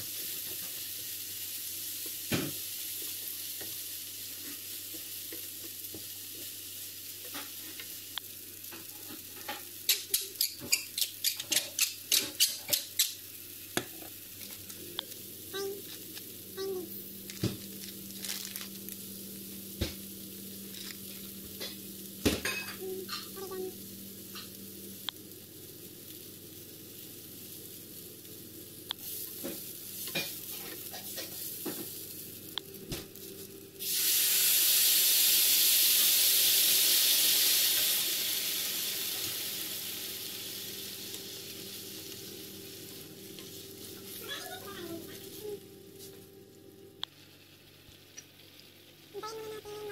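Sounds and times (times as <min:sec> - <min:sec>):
liquid sizzling in hot pan: 0:00.0 - 0:49.9
rice frying in a pan: 0:00.0 - 0:49.9.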